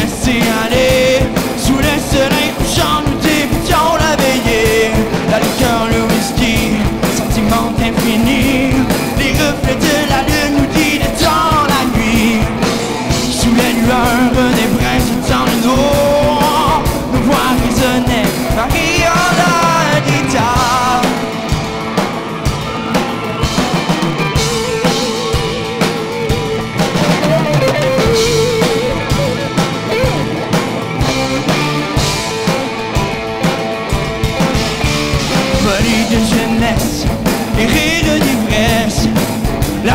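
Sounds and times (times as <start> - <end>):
drum kit: 0.0 - 39.9
live rock band playing: 0.0 - 39.9
wavering lead melody: 0.8 - 37.9.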